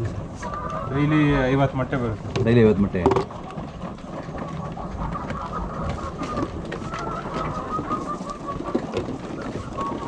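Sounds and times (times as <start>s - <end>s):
hens murmuring and clucking: 0.0s - 10.0s.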